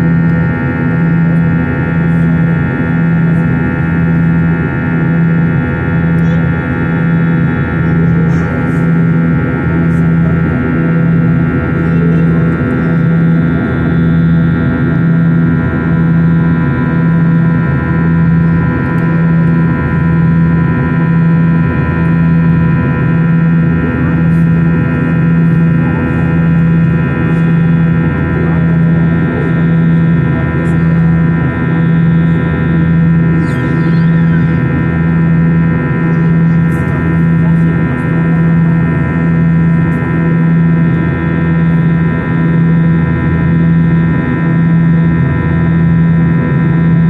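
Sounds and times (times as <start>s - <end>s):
jet engine drone in cabin: 0.0s - 47.0s
low pulsing hum: 0.0s - 47.0s.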